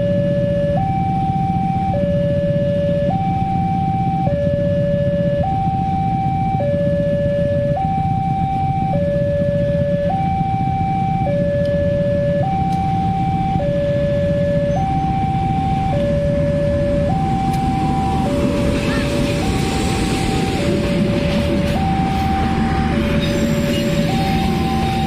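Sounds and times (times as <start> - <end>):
low steady rumble: 0.0 - 25.0
two-tone level crossing alarm: 0.0 - 25.0.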